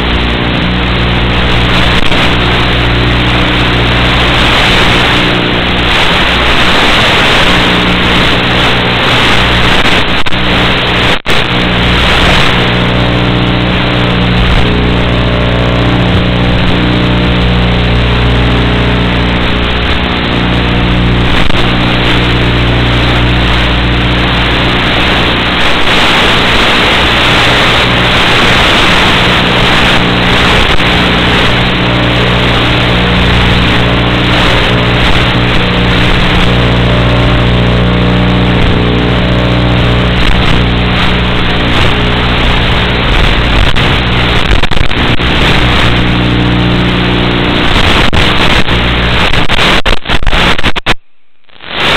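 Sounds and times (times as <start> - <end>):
loud rush of air: 0.0 - 51.0, 51.6 - 51.9.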